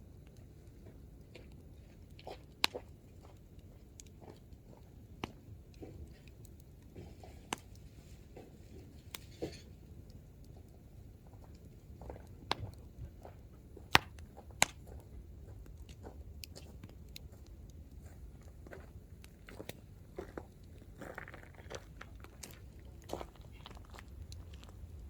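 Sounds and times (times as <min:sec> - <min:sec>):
campfire crackling: 0:00.0 - 0:25.0
low rumble of flame: 0:00.0 - 0:25.0.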